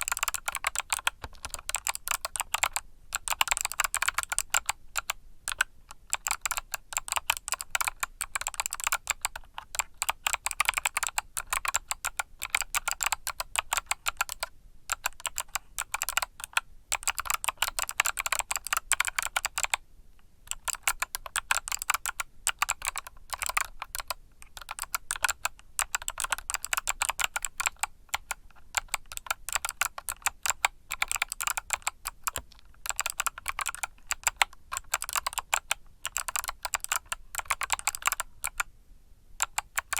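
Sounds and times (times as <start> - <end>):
mechanical keyboard typing: 0.0 - 19.8, 20.5 - 38.7, 39.4 - 39.9.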